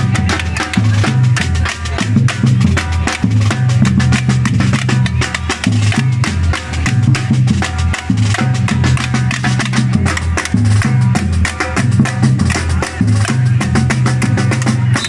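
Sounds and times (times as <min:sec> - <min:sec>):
bass line: 0:00.0 - 0:15.0
live band music: 0:00.0 - 0:15.0.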